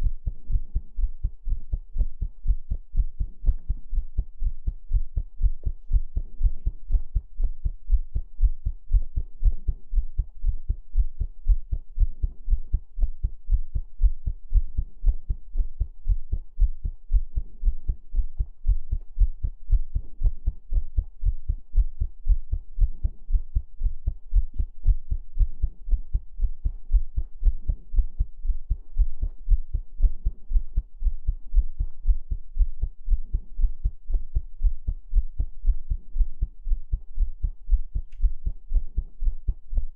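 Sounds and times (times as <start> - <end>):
heartbeat thumps: 0.0 - 39.9.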